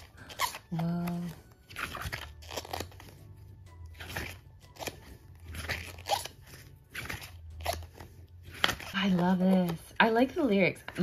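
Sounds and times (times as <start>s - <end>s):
book pages turning: 0.0s - 11.0s
quiet background music: 0.0s - 11.0s.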